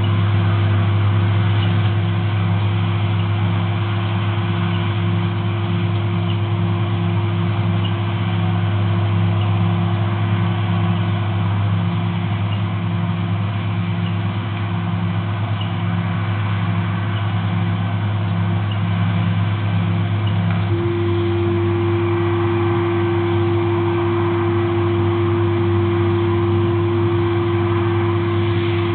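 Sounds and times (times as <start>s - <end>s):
diesel engine droning: 0.0s - 28.9s.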